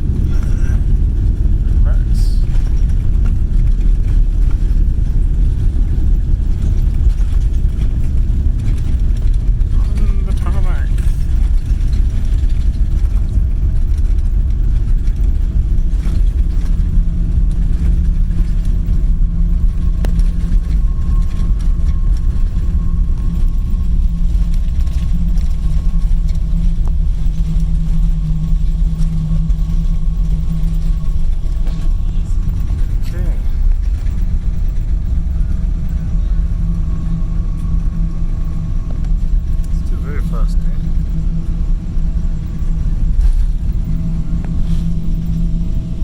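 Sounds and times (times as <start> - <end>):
aircraft engines rumbling: 0.0 - 46.0
steady whining tones: 0.0 - 46.0.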